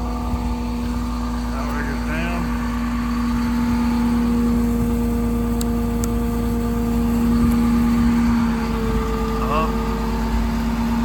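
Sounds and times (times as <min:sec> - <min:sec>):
diesel truck engine running: 0:00.0 - 0:11.0
hydraulic whine: 0:00.0 - 0:11.0.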